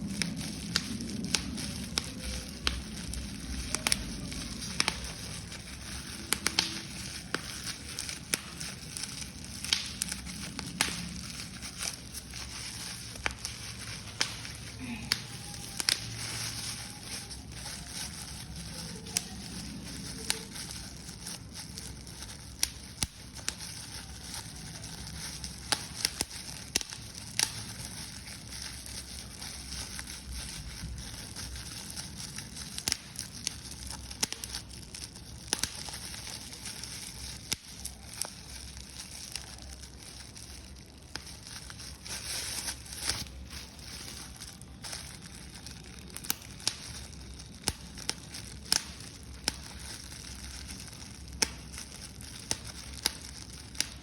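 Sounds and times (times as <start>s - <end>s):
paper being crumpled: 0.0s - 54.0s.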